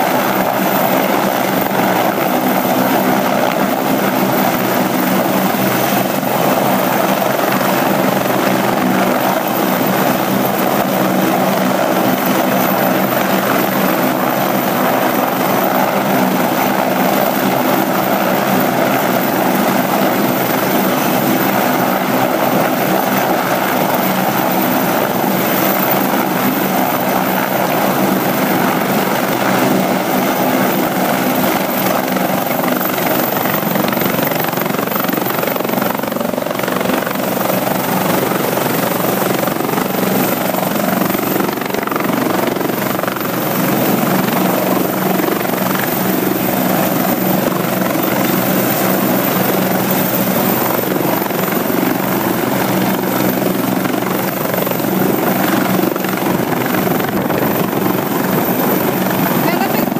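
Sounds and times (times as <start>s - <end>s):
helicopter hovering: 0.0s - 59.9s.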